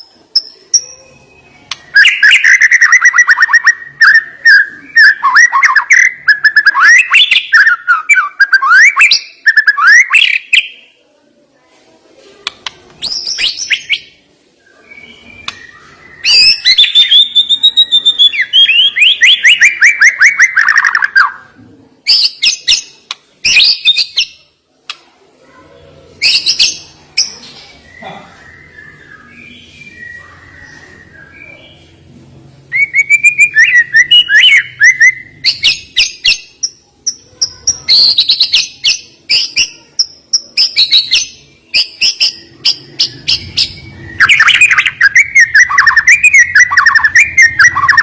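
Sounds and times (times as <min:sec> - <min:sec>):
bird singing whistled phrases: 0:00.4 - 0:10.7, 0:13.0 - 0:21.4, 0:26.2 - 0:31.6, 0:32.7 - 0:36.8, 0:37.6 - 0:48.0.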